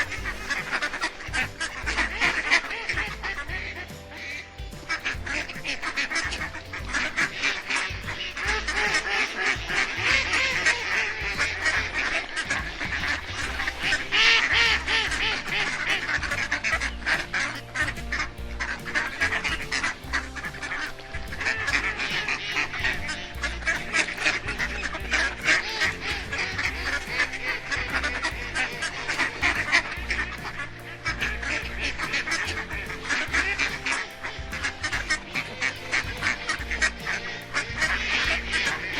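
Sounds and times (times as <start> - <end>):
background music: 0.0 - 38.9
ducks quacking: 0.0 - 38.9.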